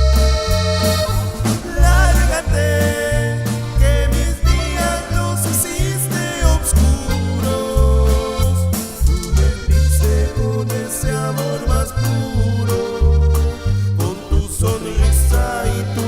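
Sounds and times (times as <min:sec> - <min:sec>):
accordion melody: 0:00.0 - 0:16.0
drums: 0:00.0 - 0:16.0
electric bass: 0:00.0 - 0:16.0.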